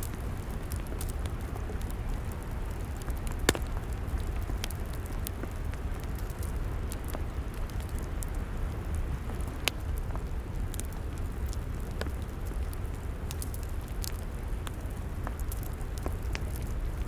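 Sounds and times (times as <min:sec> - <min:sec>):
log fire crackling and popping: 0:00.0 - 0:17.0
low rumble of burning fire: 0:00.0 - 0:17.0.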